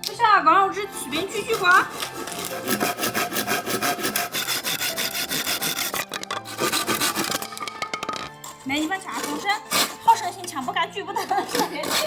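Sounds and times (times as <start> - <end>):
hand saw cutting bamboo: 0.7 - 12.0.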